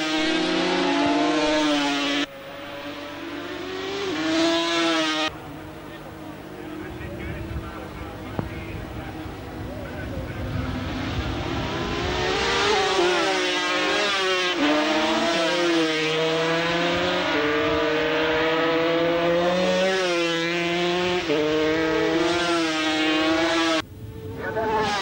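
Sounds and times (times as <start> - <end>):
racing motorcycle engines accelerating: 0.0 - 25.0.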